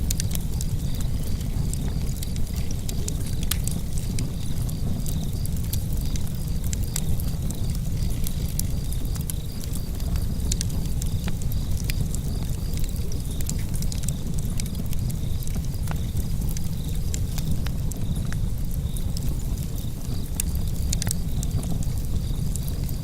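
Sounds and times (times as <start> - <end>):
crackles and pops of burning wood: 0.0 - 23.0
wood fire burning: 0.0 - 23.0.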